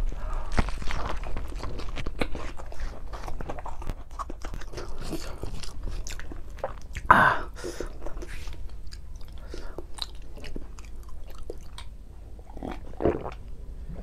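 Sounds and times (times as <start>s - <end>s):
chewing with wet mouth clicks: 1.0s - 7.1s, 7.9s - 13.4s.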